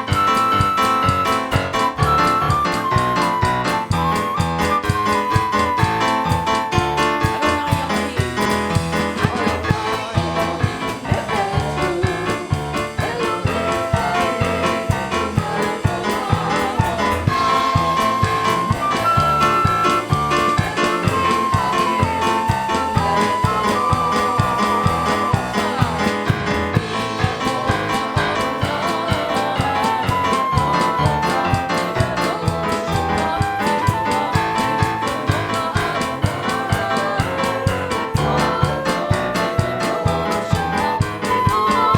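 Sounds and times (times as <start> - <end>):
worship music with piano: 0.0 - 41.9.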